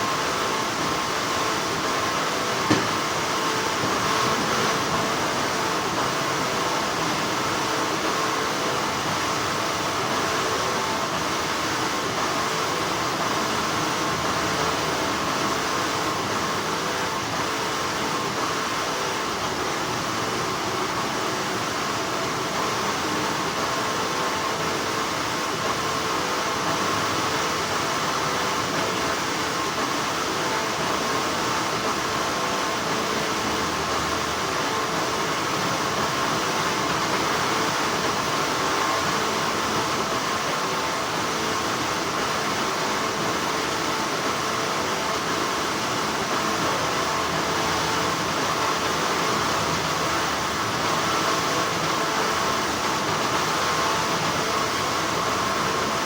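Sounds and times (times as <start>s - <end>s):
factory machinery hum: 0.0s - 56.0s.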